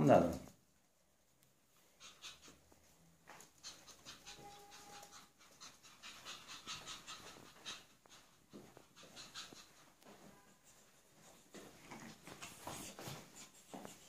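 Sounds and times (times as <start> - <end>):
puppies panting: 1.7 - 14.0.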